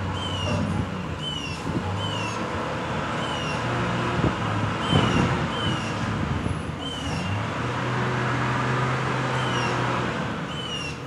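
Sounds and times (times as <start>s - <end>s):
vehicle traffic hum: 0.0s - 11.0s.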